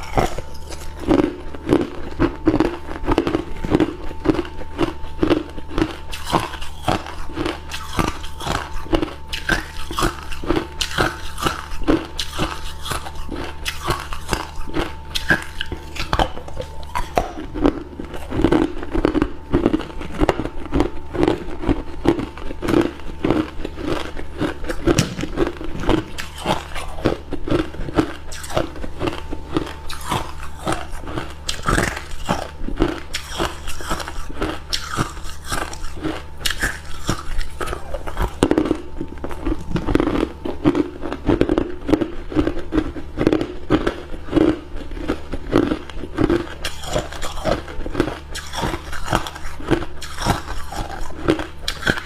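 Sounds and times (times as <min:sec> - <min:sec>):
person crunching ice: 0:00.0 - 0:52.0.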